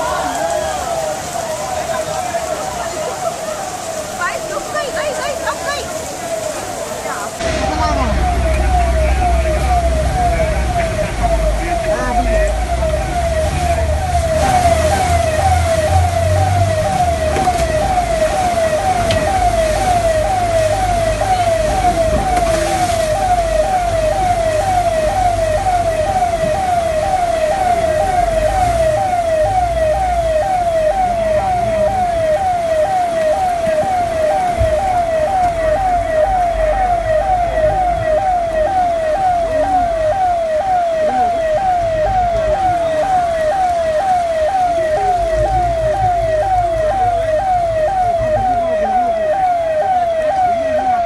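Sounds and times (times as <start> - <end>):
siren falling wail: 0.0 - 51.0.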